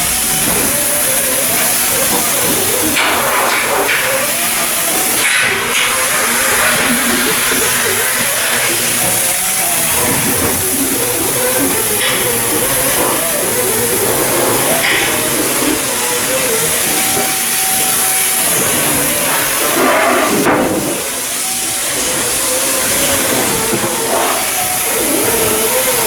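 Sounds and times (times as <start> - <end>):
wavering hum: 0.0 - 26.0.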